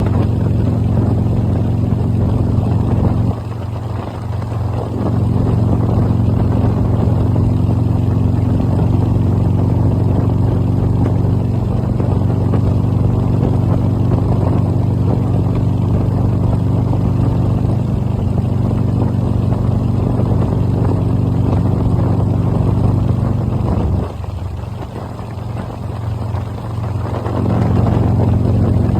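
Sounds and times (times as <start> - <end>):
motorcycle engine running: 0.0 - 28.9
road and wind noise: 0.0 - 28.9.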